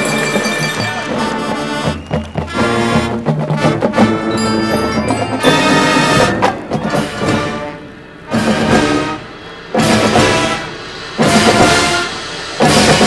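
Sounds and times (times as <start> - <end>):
brass chords: 0.0 - 13.0
percussion strokes: 0.0 - 13.0.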